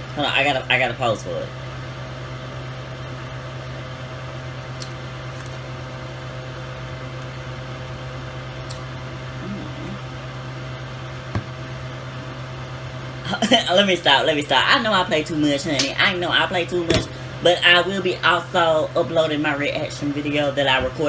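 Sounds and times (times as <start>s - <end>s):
appliance electrical hum: 0.0s - 21.0s.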